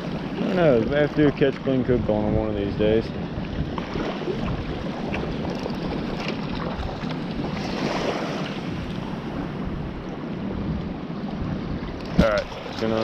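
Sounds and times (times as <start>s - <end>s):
sea water washing: 0.0s - 13.0s
wind buffeting microphone: 0.0s - 13.0s.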